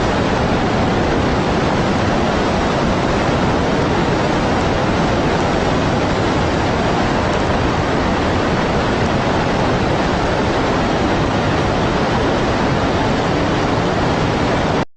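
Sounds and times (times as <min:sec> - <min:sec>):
floodwater rushing: 0:00.0 - 0:14.8.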